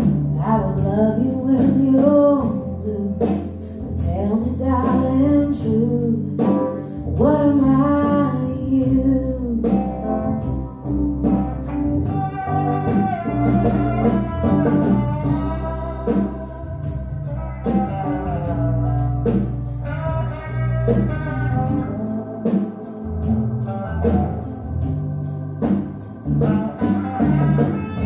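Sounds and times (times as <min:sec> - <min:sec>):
bass notes: 0:00.0 - 0:28.0
plucked guitar: 0:00.0 - 0:28.0.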